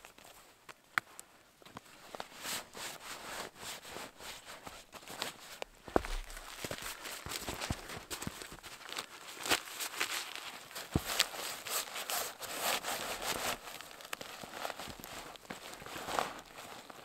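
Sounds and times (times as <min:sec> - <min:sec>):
small scuffs and clicks: 0:00.0 - 0:17.0
fabric rustling and crinkling: 0:01.4 - 0:17.0.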